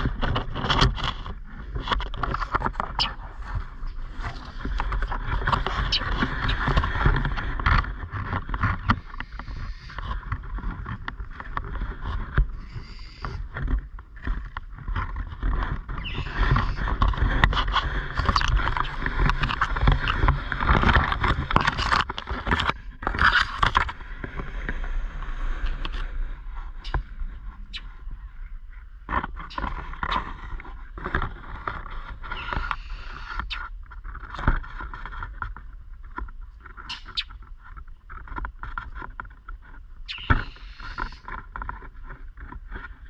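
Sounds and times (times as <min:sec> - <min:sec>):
wind rumbling over microphone: 0:00.0 - 0:43.0.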